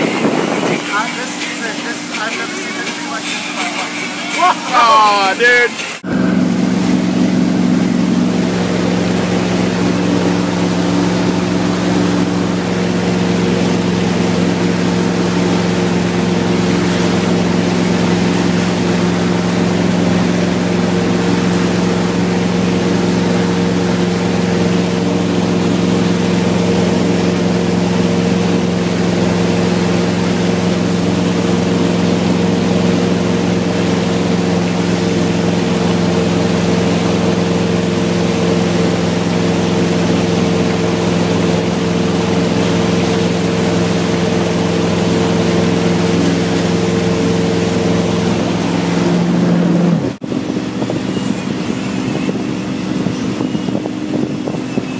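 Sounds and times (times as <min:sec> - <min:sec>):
wind: 0:00.0 - 0:03.0, 0:05.7 - 0:54.9
boat engine droning: 0:00.0 - 0:54.9
rushing wake water: 0:00.0 - 0:54.9.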